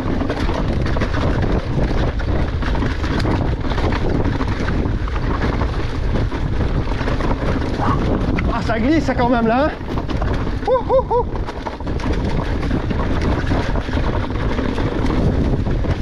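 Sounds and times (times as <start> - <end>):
bike clattering over rocks: 0.0 - 16.0
wind buffeting microphone: 0.0 - 16.0.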